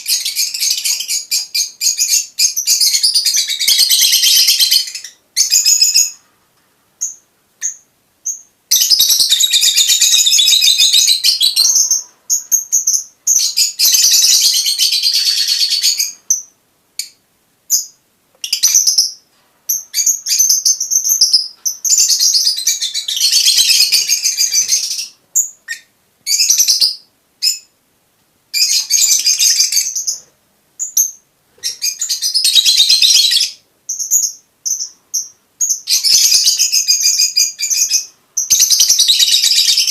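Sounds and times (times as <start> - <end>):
lovebirds twittering: 0.0 - 6.2, 7.0 - 27.7, 28.6 - 39.9.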